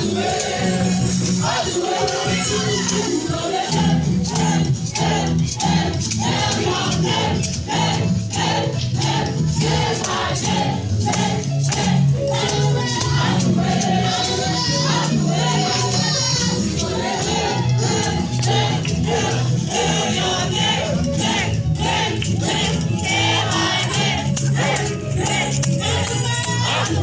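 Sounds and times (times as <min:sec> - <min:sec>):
low bass line: 0:00.0 - 0:01.6, 0:02.2 - 0:27.0
choir singing: 0:00.0 - 0:27.0
rhythmic percussion: 0:00.0 - 0:27.0.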